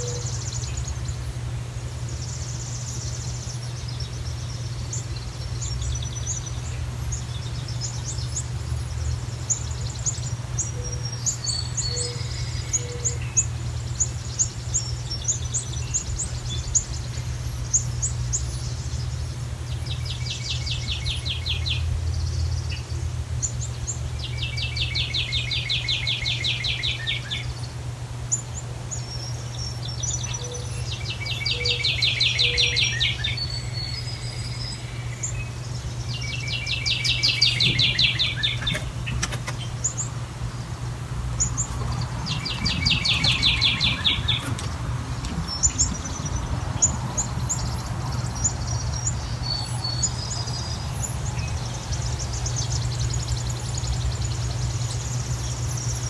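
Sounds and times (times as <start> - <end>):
birds high chirps: 0.0 - 56.0
steady low hum: 0.0 - 56.0
songbird rapid trill: 2.0 - 56.0.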